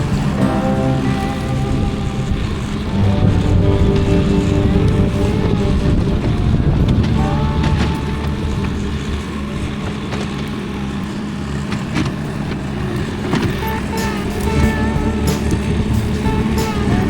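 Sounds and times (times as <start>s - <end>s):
heavy equipment engine running: 0.0s - 17.0s.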